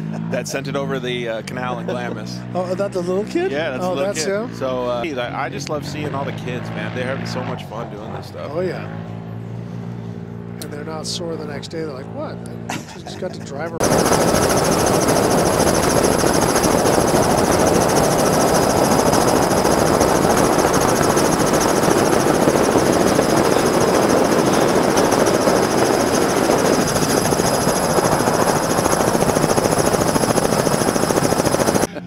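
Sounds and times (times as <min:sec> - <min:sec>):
helicopter rotor and engine: 0:00.0 - 0:31.9.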